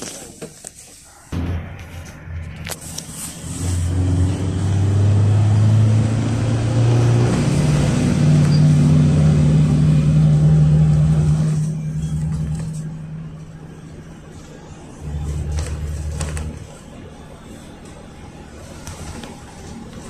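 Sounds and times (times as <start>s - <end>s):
minibus engine accelerating: 1.3s - 20.0s.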